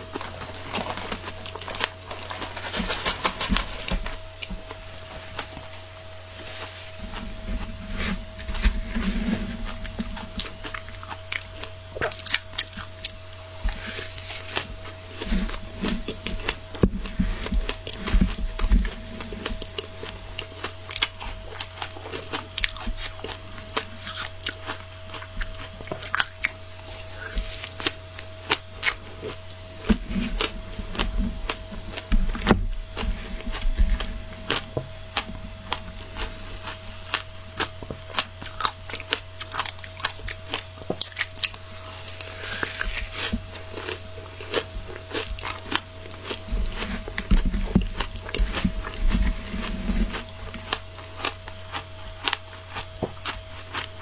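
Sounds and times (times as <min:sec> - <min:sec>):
crunching shaved ice: 0:00.0 - 0:54.0
faint hum: 0:00.0 - 0:54.0.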